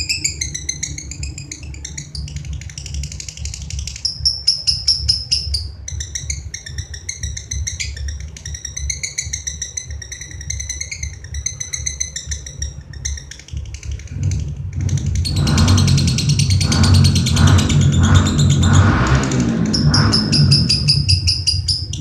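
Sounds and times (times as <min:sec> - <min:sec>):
lovebird chattering trill: 0:00.0 - 0:22.0
steady low hum: 0:00.0 - 0:22.0.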